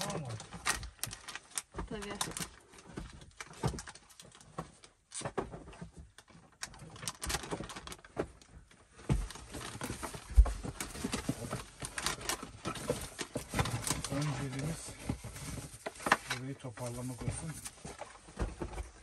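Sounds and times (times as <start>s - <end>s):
household items clattering: 0.0s - 19.0s.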